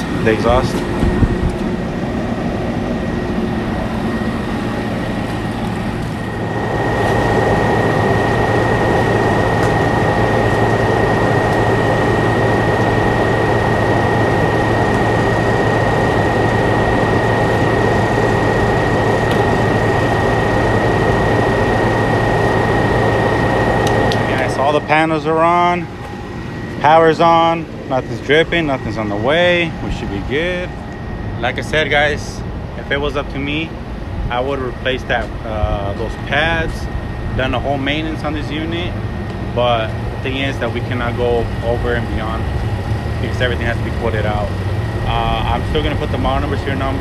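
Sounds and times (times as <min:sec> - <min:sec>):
cooler fan air rushing: 0:00.0 - 0:47.0
high constant whine: 0:00.0 - 0:47.0
low motor hum: 0:00.0 - 0:47.0.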